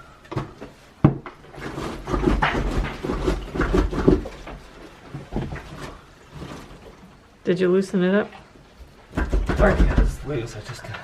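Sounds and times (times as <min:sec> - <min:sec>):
clattering knocks and scraping: 0:00.0 - 0:07.2, 0:08.8 - 0:11.0.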